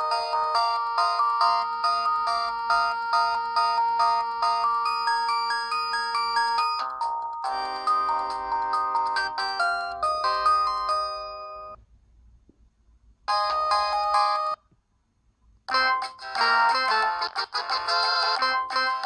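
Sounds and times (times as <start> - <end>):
phone ringtone melodies: 0.0 - 11.8, 13.3 - 14.6, 15.7 - 19.0.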